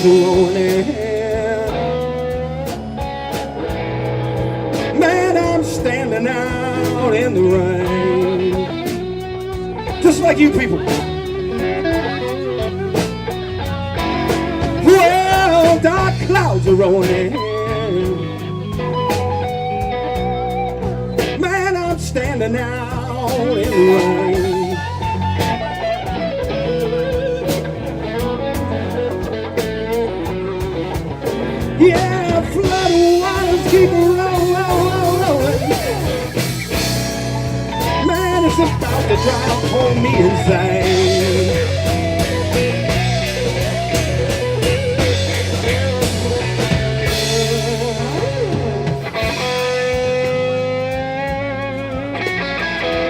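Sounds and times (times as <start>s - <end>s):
person singing: 0.0s - 13.1s, 14.0s - 27.4s, 29.9s - 37.0s, 37.7s - 52.4s
blues band playing: 0.0s - 53.0s
electric guitar bent notes: 0.0s - 53.0s.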